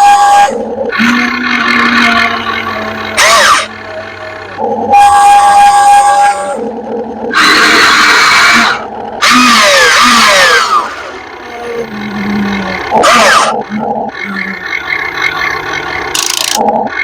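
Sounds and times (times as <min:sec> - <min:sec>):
toy excavator motors grinding: 0:00.0 - 0:17.0.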